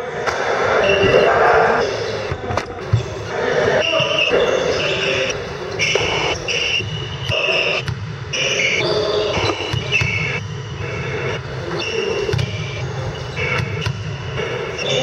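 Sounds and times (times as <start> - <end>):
sneakers squeaking on hall floor: 0.1 - 15.0.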